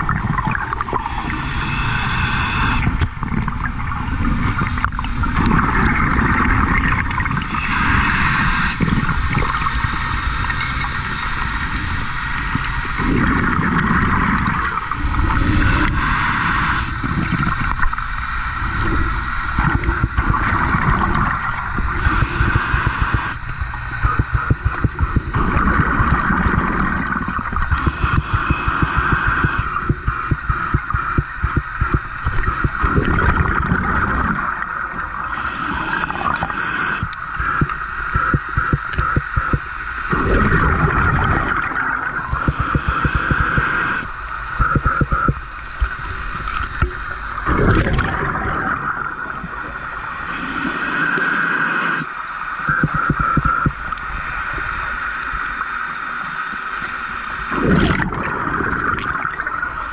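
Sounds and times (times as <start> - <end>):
steady high hum: 0.0 - 59.9
underwater bubbles gurgling: 0.0 - 59.9.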